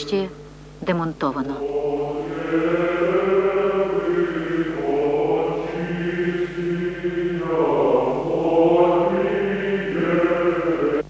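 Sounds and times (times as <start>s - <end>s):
low drone: 1.4s - 11.0s
choir chanting held notes: 1.5s - 11.0s.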